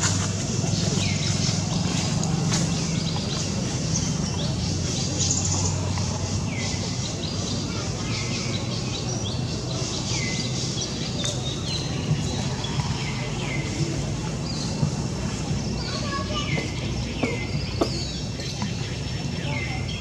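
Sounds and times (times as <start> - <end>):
birds calling: 0.4 - 20.0.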